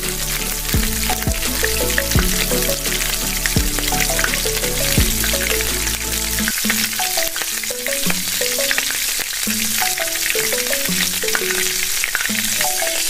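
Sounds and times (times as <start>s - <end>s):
fries sizzling in hot oil: 0.0s - 13.0s
soft background music: 0.0s - 13.0s.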